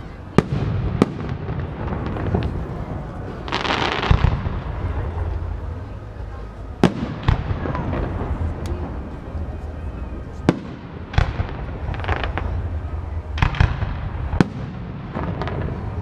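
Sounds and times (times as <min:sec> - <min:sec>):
fireworks booms: 0:00.3 - 0:05.8, 0:06.8 - 0:09.3, 0:10.3 - 0:16.0.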